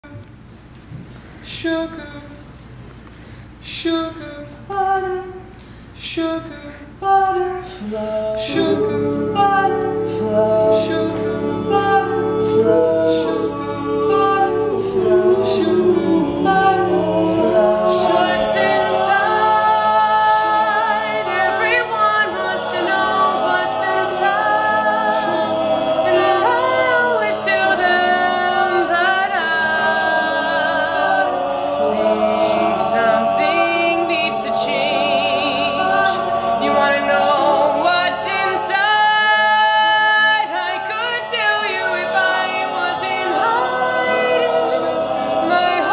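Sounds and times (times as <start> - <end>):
men singing a cappella in harmony: 3.7 - 45.9.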